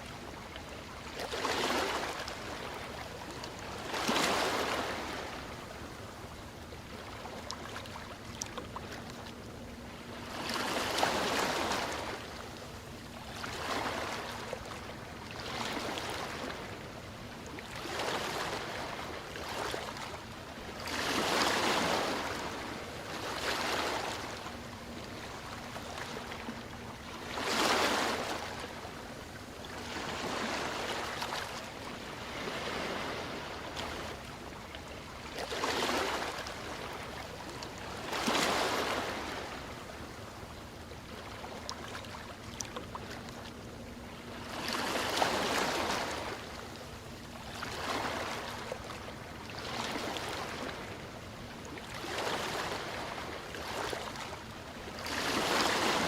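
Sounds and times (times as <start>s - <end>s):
ocean waves breaking: 0.0s - 6.0s, 6.9s - 40.2s, 41.1s - 56.0s.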